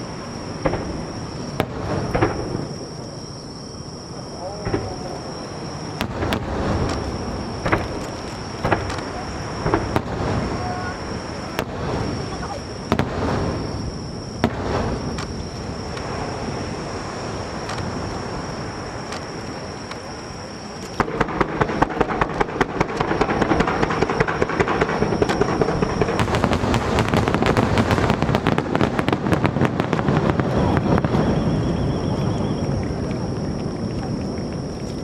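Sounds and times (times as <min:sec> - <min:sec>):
crackling firework reports: 0:00.0 - 0:35.0
low rumble of firework bursts: 0:00.0 - 0:35.0.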